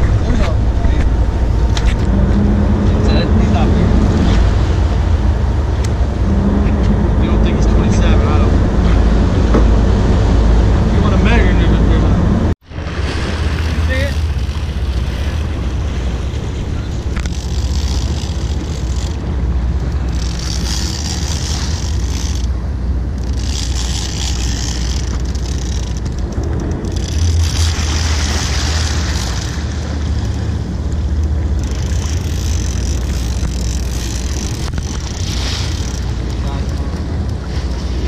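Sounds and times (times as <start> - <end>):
boat engines rumbling: 0.0 - 38.0
water rushing: 0.0 - 38.0
wind on microphone: 0.0 - 38.0.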